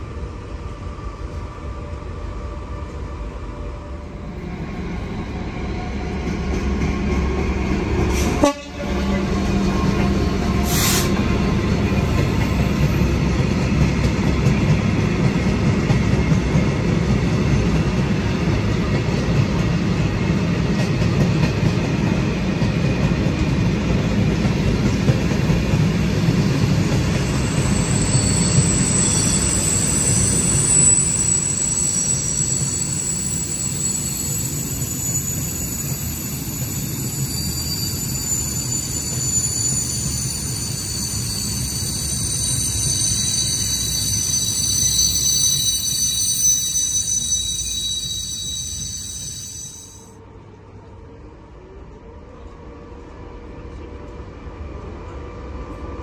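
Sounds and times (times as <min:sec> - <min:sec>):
train wheels rumbling on rails: 0:00.0 - 0:50.9
wheels squealing on rails: 0:03.6 - 0:20.2, 0:20.8 - 0:50.2.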